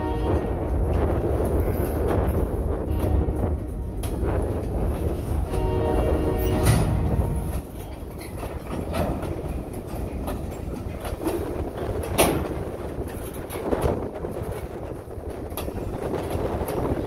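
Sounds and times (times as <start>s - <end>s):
freight train rumbling past: 0.0s - 17.0s
wheels clicking over rail joints: 0.0s - 17.0s.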